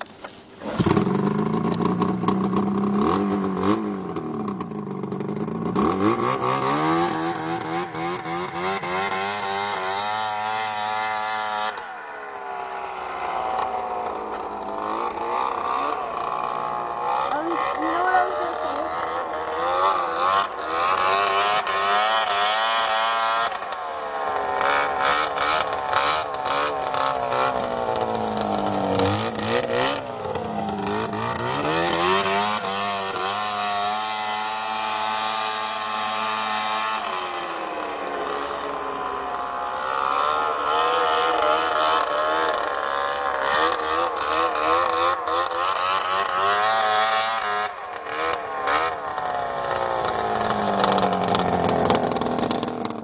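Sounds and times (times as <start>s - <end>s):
rough exhaust crackle: 0.0s - 44.4s, 47.8s - 53.0s
snowmobile engine revving: 0.0s - 53.0s.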